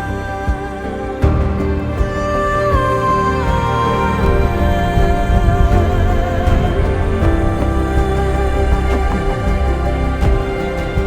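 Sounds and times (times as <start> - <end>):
slow sustained background music: 0.0 - 11.0.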